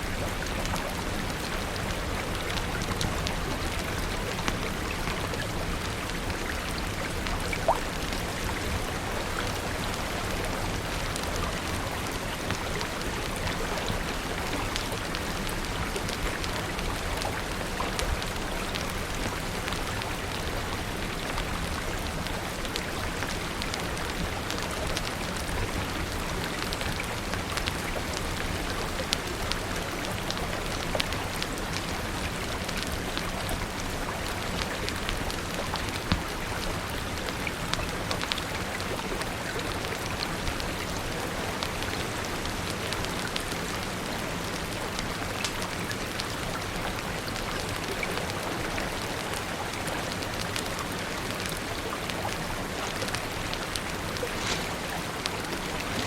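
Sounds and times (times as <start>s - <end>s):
crackling wood fire: 0.0s - 56.0s
rain falling: 0.0s - 56.0s.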